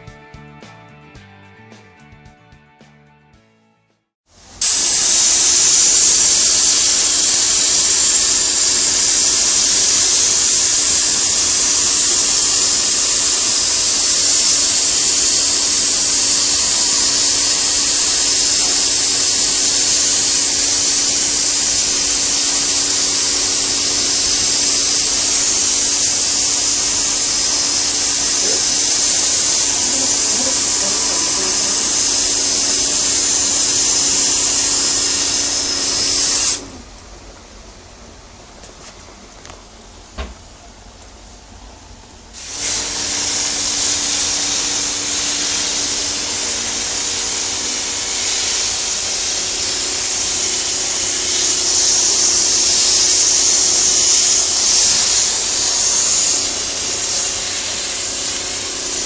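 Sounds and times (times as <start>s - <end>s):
cleaning machine spraying hiss: 4.3s - 37.2s, 42.3s - 59.0s.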